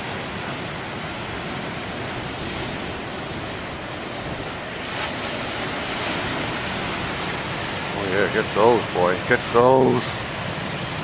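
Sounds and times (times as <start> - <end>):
waves breaking: 0.0 - 11.0.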